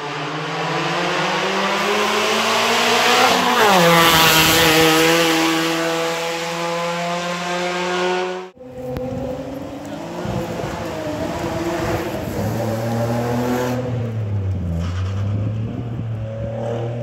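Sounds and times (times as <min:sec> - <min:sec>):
race car engine passing: 0:00.0 - 0:17.0.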